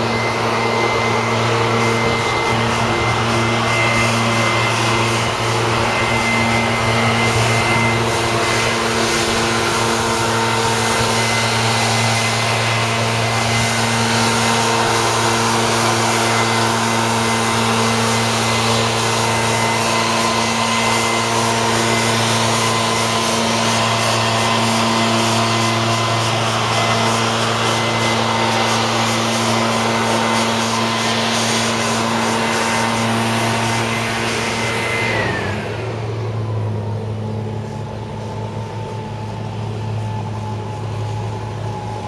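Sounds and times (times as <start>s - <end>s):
steady mechanical hum: 0.0s - 42.0s.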